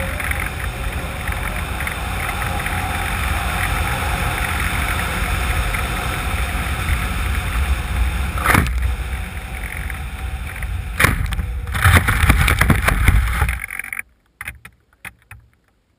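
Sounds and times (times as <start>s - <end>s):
plane sliding through snow: 0.0s - 13.6s
plane thumping on ground: 0.0s - 13.6s
wind buffeting microphone: 0.0s - 13.6s.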